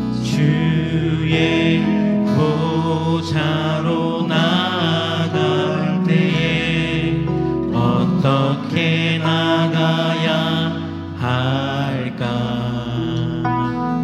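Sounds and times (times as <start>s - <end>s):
chant-like voices: 0.0s - 13.8s
church worship music: 0.0s - 14.0s.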